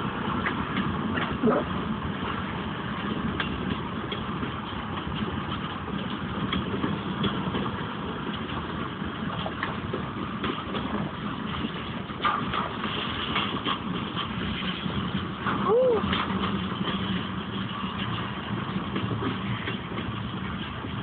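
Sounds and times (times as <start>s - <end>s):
train cars clicking and clanking: 0.0s - 21.0s
train wheels rumbling on rails: 0.0s - 21.0s.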